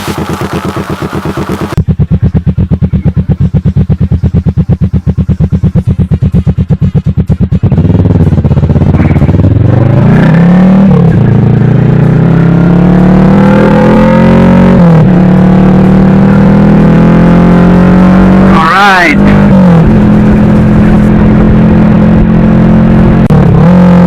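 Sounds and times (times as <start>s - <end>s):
motorcycle engine accelerating hard: 0.0s - 24.0s.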